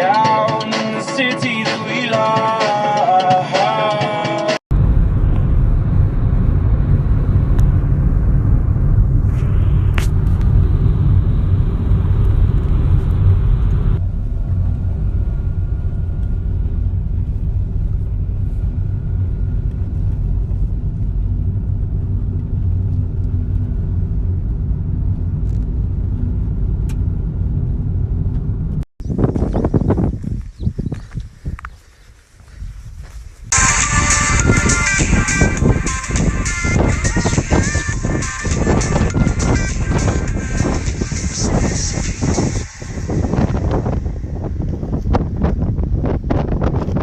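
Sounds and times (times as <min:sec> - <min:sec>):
low rumble: 0:04.7 - 0:47.0.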